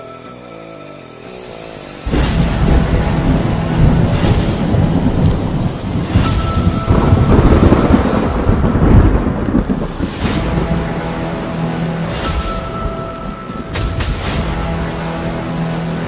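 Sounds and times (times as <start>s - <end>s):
floodwater rushing: 1.4s - 16.0s.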